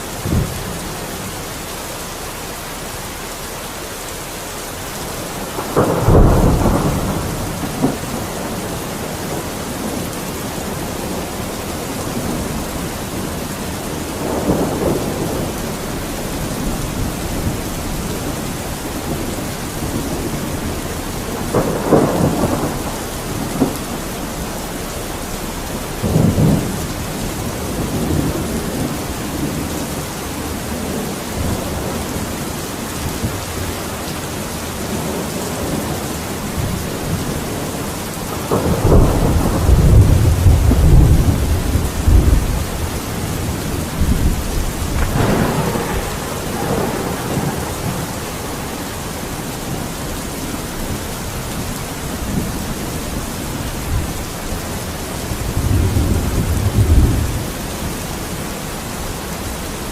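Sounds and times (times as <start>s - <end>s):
thunder rumbling: 0.0s - 1.9s, 4.2s - 59.9s
steady rain: 0.0s - 59.9s.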